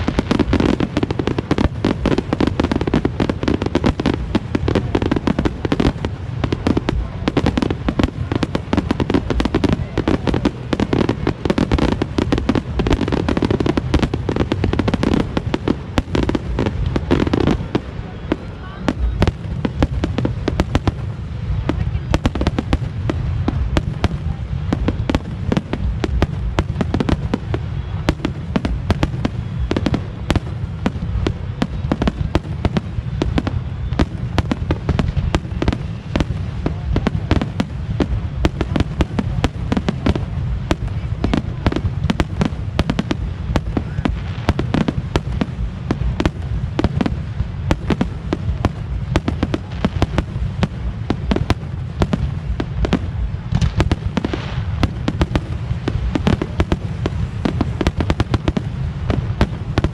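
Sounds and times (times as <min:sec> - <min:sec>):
fireworks bangs and crackles: 0:00.0 - 0:59.9
low rumble: 0:00.0 - 0:59.9.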